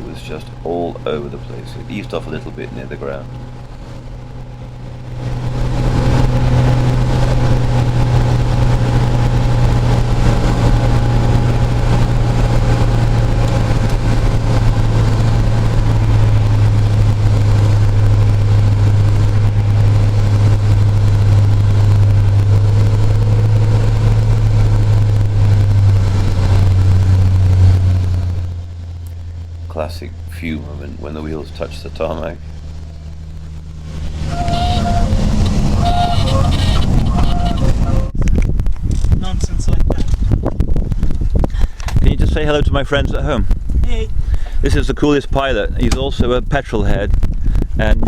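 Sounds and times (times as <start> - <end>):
propeller plane engine droning: 0.0 - 48.0.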